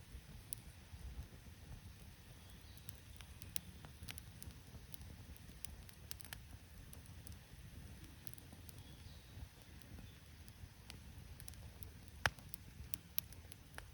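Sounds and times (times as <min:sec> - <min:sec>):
campfire crackling and popping: 0:00.0 - 0:13.9.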